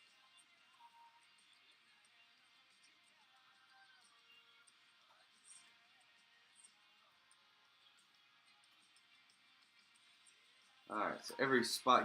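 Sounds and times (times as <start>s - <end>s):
small ticks: 0.0s - 10.9s
faint background music: 0.0s - 12.0s.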